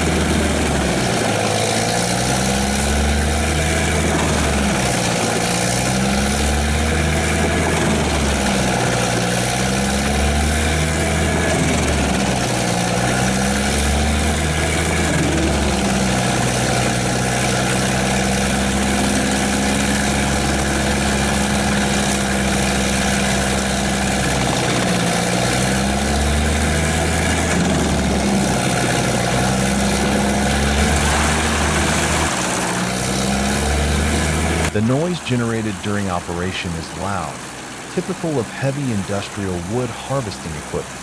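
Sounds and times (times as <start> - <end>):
chipping drum grinding: 0.0 - 34.8
wood chipper engine running: 0.0 - 41.0.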